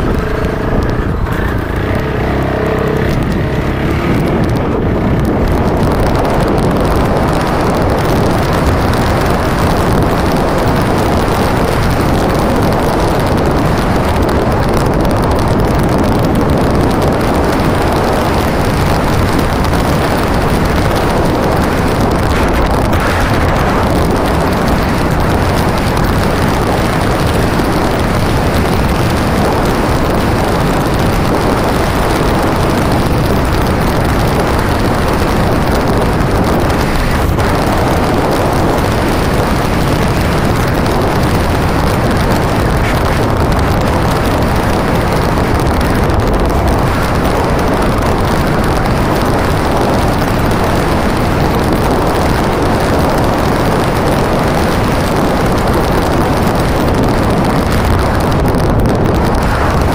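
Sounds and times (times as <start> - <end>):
motorcycle engine drone: 0.0 - 59.9
wind rush over microphone: 0.0 - 59.9.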